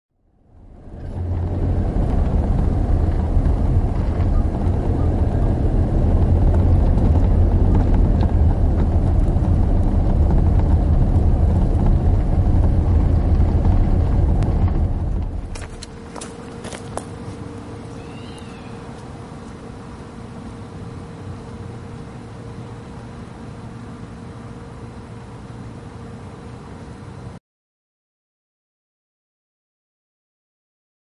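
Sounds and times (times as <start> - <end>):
low rumble of vehicle: 0.2 - 27.4.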